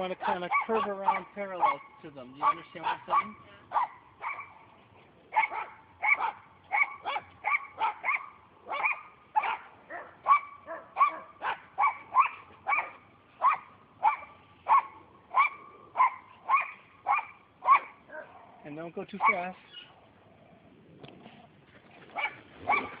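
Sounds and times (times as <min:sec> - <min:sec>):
dog barking: 0:00.2 - 0:04.7, 0:05.3 - 0:18.6, 0:19.2 - 0:19.9, 0:22.1 - 0:23.0.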